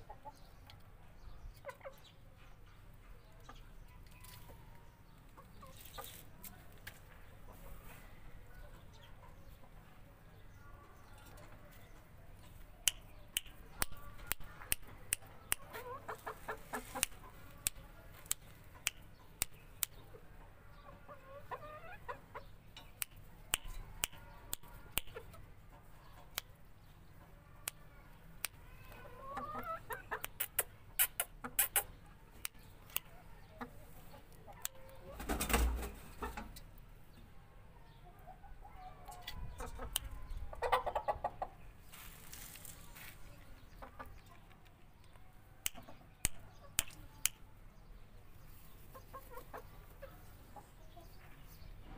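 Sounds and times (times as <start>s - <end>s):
chicken clucking softly: 0.0s - 51.9s.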